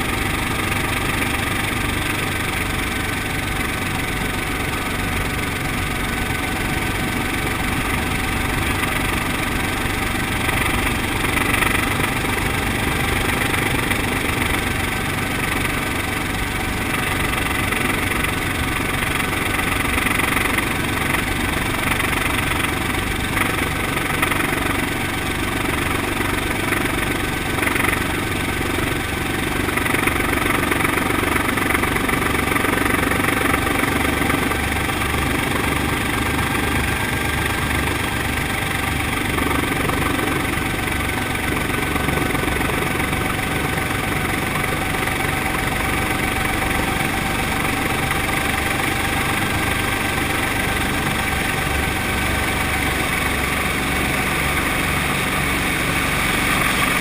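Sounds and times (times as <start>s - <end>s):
helicopter engine and rotor running: 0.0s - 57.0s.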